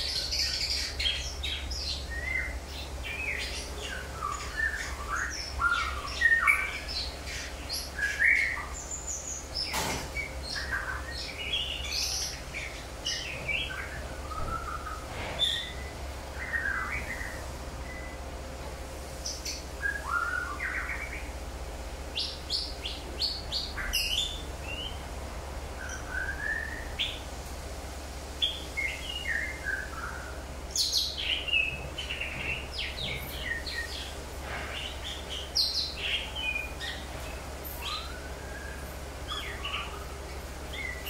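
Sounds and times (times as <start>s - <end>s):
birds chirping and whistling: 0.0s - 18.3s, 19.2s - 27.3s, 28.4s - 41.0s.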